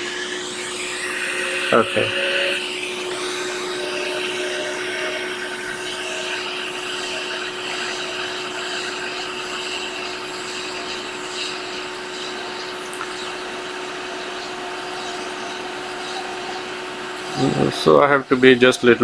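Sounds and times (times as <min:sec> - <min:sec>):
hot air blower hissing: 0:00.0 - 0:19.0.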